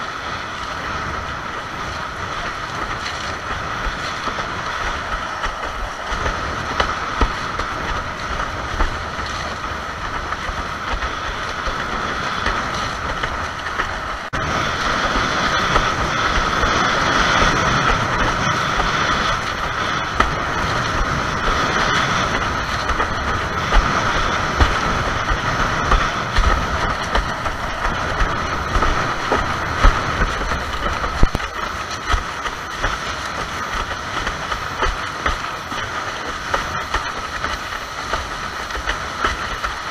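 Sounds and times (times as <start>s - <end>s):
board slapping waves: 0.0s - 39.9s
rush of water and wind: 0.0s - 39.9s.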